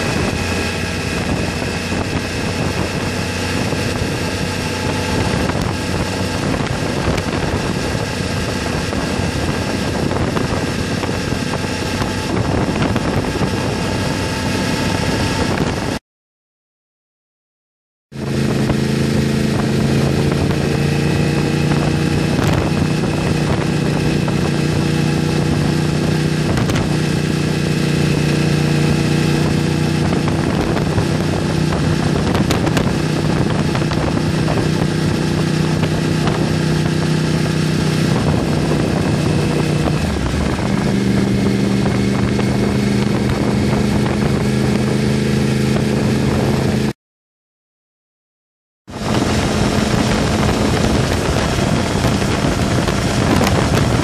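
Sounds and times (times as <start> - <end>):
motorcycle engine cruising: 0.0 - 16.0, 18.1 - 47.0, 48.9 - 54.0.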